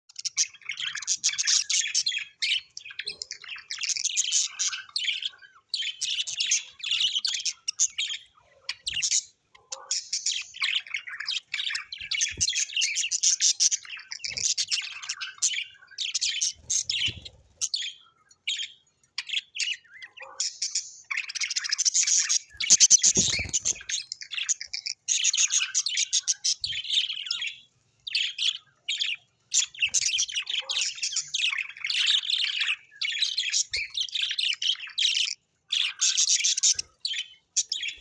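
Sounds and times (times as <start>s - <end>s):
parrots chattering and chirping: 0.1s - 38.0s.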